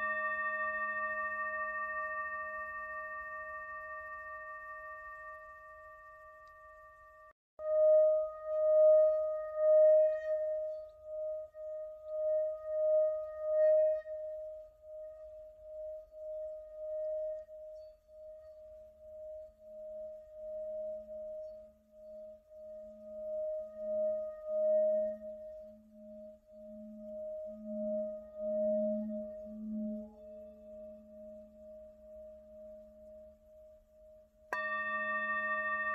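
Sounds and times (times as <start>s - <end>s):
singing bowl ringing: 0.0s - 15.0s, 15.6s - 35.9s.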